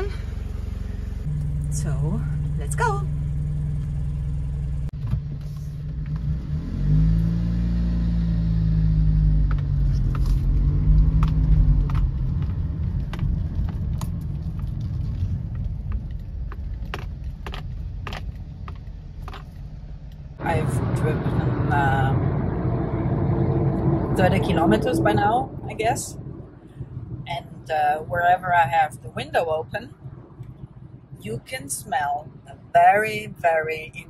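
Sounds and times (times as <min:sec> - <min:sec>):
car engine rumble: 0:00.0 - 0:34.0
road noise: 0:00.0 - 0:34.0.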